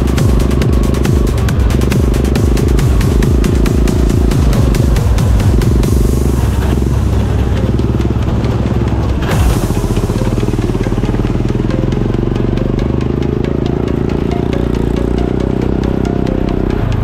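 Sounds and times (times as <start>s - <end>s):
lawn mower engine at high revs: 0.0s - 17.0s.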